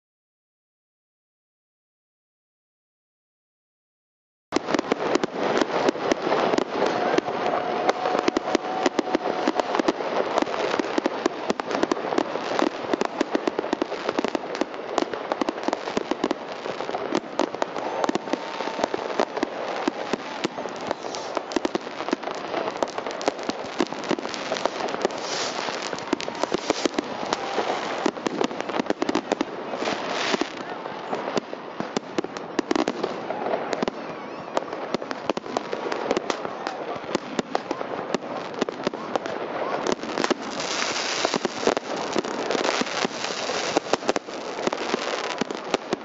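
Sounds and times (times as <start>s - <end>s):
fireworks bangs and crackling: 4.5s - 46.0s.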